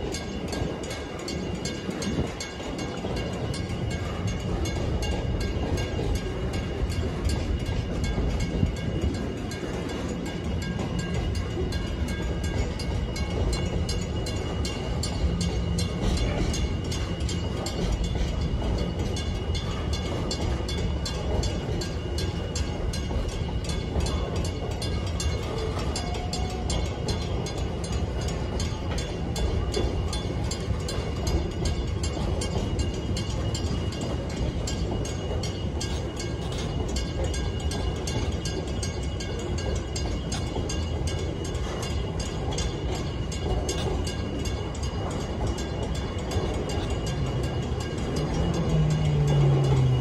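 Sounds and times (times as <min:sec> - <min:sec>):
quick regular rail clicks: 0:00.0 - 0:50.0
train wheels rumbling on rail: 0:00.0 - 0:50.0.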